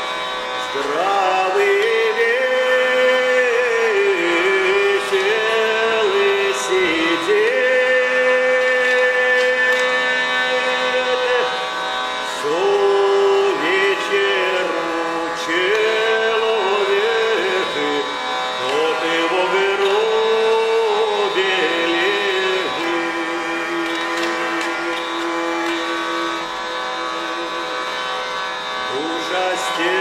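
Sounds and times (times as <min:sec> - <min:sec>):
hurdy-gurdy melody with buzzing drone: 0:00.0 - 0:30.0
man singing: 0:00.6 - 0:28.1, 0:28.8 - 0:30.0.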